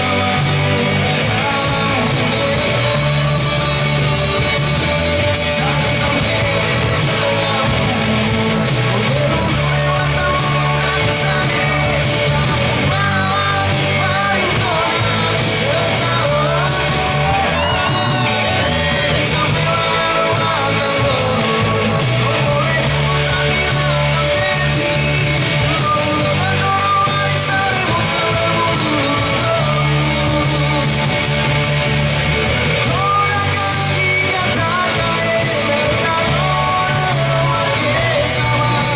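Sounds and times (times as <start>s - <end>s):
drum beat: 0.0s - 38.9s
electric guitar: 0.0s - 38.9s
person singing: 0.0s - 38.9s.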